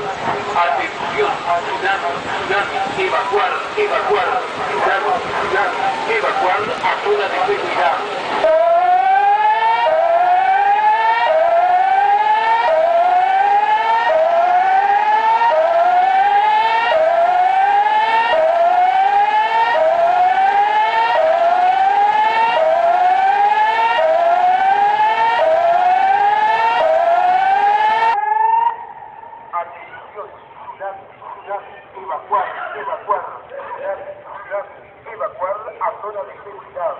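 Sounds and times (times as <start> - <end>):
wailing emergency siren: 0.0 - 31.1.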